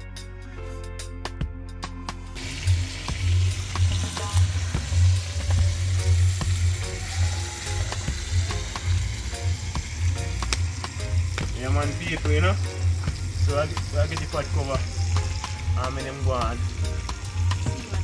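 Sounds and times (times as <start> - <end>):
low rumbles: 1.3 - 18.0
meat sizzling in hot oil: 2.4 - 18.0.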